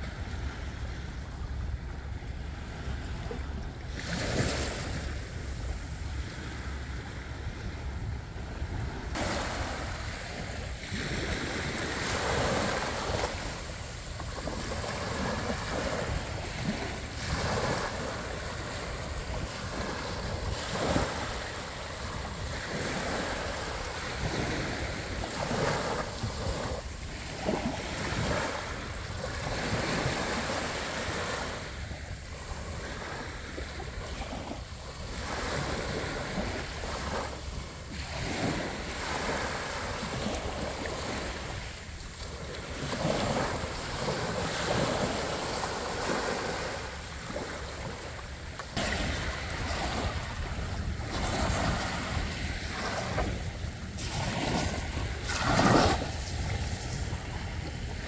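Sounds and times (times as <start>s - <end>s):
small waves breaking on beach: 0.0s - 58.0s
wind rumbling on microphone: 0.0s - 58.0s.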